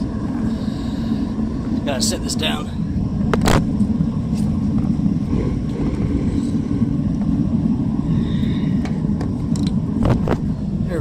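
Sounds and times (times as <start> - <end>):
furnace burner roaring: 0.0 - 11.0.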